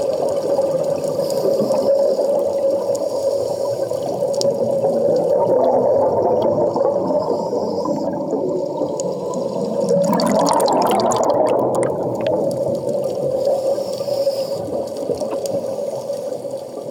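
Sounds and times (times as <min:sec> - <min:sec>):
underwater air bubbles rushing: 0:00.0 - 0:16.9.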